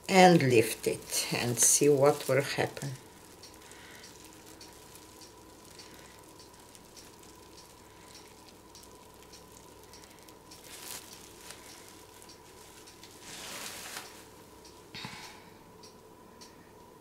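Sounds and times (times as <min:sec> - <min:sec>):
plastic sheet rustle: 0:00.0 - 0:08.5, 0:09.1 - 0:14.4
bubble wrap crackling: 0:00.0 - 0:14.4.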